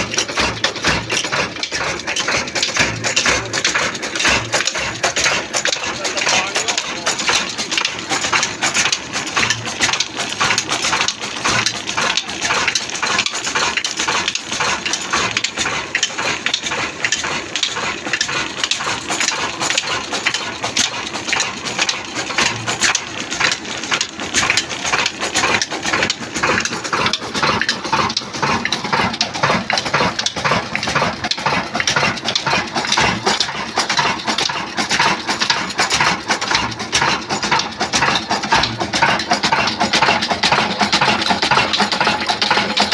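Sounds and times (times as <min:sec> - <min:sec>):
diesel engine clattering: 0:00.0 - 0:42.9.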